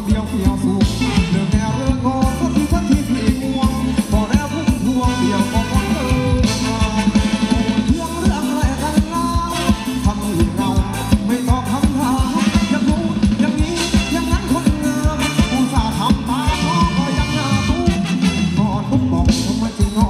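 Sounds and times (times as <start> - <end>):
live band dance music with singing: 0.0 - 20.0.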